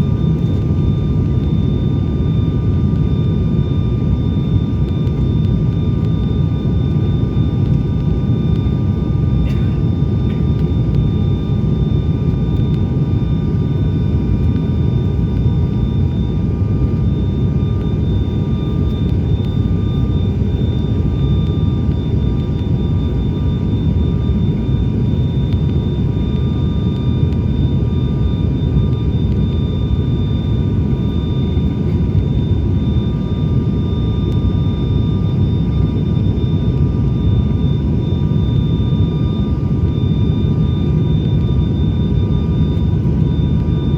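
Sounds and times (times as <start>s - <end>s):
turboprop engines droning in cabin: 0.0s - 43.9s.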